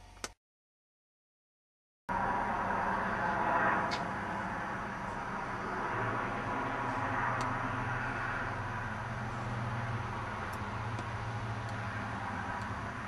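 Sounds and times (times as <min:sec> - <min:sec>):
low drone: 0:02.1 - 0:13.0.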